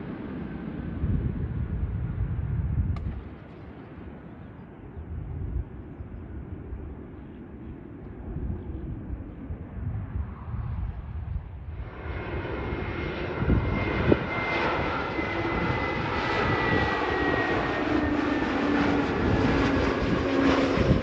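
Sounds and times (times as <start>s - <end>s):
distant jet engine noise: 0.0s - 21.0s
wind buffeting microphone: 0.0s - 21.0s.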